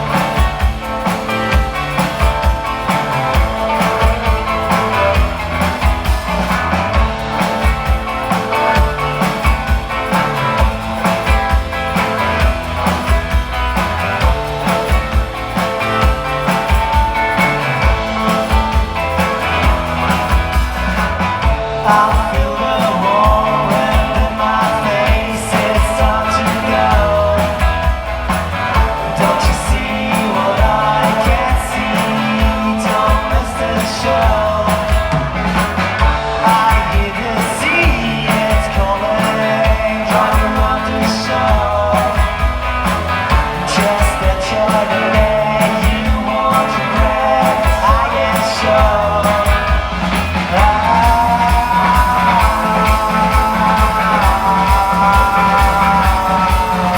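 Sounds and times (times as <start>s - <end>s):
bass and electric guitar: 0.0s - 56.9s
drums beating: 0.0s - 56.9s
person singing: 0.0s - 56.9s.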